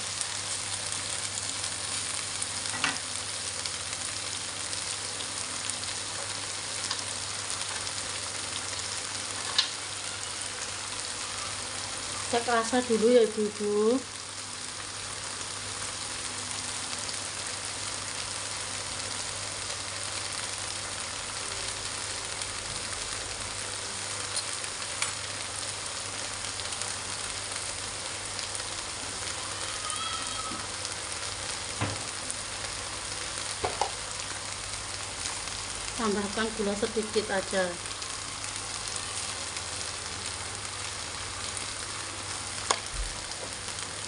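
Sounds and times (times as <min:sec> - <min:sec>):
stir-fry sizzling in a wok: 0:00.0 - 0:44.0.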